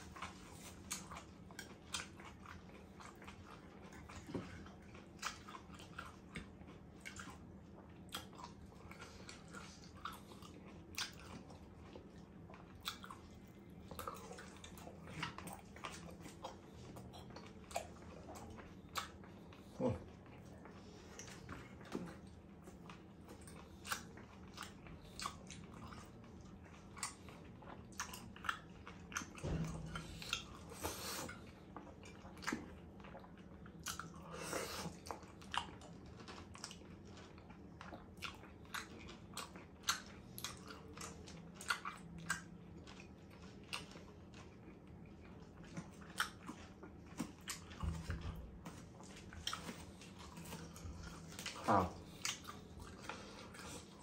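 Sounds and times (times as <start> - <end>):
chewing with wet mouth clicks: 0.0 - 54.0.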